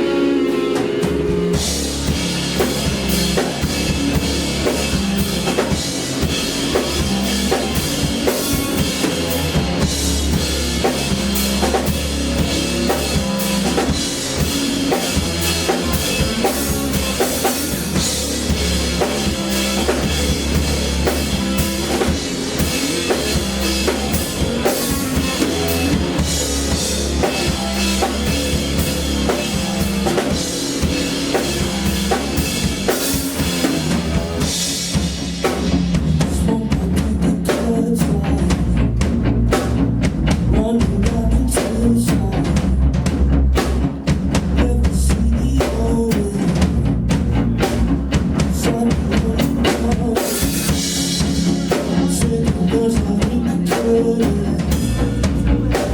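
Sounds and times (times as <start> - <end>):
drum beat: 0.0 - 55.9
heavy bass line: 0.0 - 55.9
live band music: 0.0 - 55.9.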